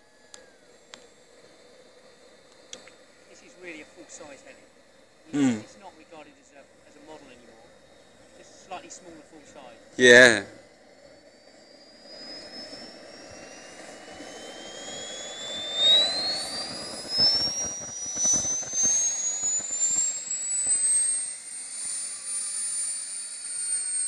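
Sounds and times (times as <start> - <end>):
turbine engine whine rising: 0.0 - 24.0.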